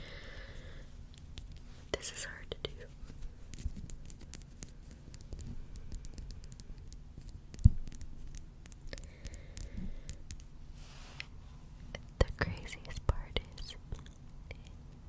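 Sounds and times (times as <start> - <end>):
soft clicks scratches and rustles: 1.1 - 15.0.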